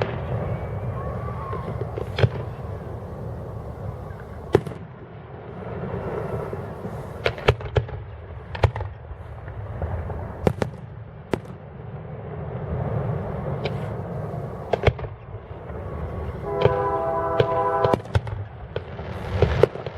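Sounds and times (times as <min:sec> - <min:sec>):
distant fireworks rumble: 0:00.0 - 0:19.9
fireworks bangs and cracks: 0:00.0 - 0:19.9.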